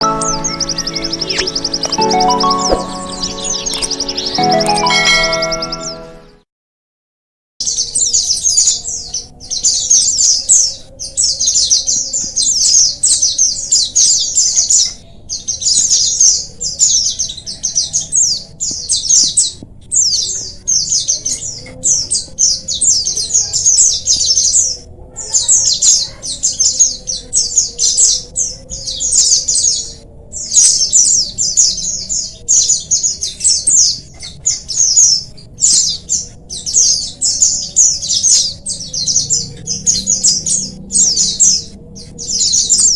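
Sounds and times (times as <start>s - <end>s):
small birds twittering and singing: 0.0s - 6.3s, 7.6s - 42.9s.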